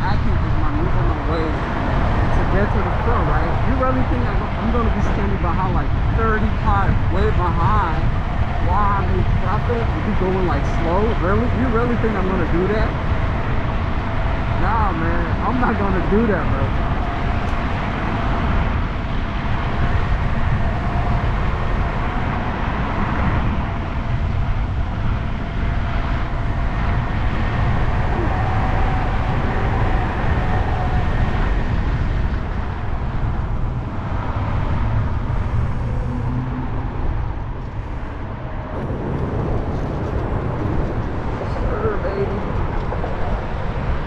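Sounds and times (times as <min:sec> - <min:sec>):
faint steady whine: 0:00.0 - 0:44.0
wind noise on microphone: 0:00.0 - 0:44.0.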